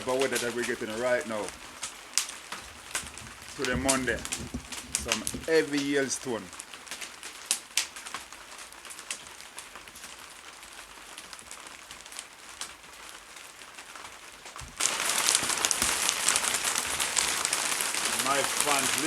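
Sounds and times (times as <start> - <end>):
hail and rain pattering: 0.0 - 19.0
sharp ticks of hailstones: 0.0 - 19.0.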